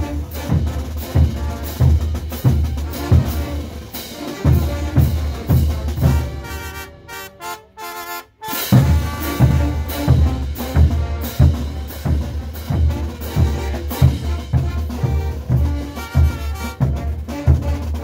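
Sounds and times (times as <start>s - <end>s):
bass and snare drums beating: 0.0s - 7.2s, 8.5s - 18.0s
brass band playing: 0.0s - 18.0s.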